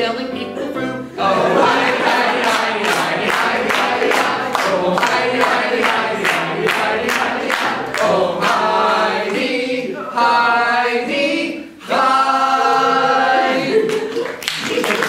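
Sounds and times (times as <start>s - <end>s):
group singing a cappella: 1.1s - 14.2s.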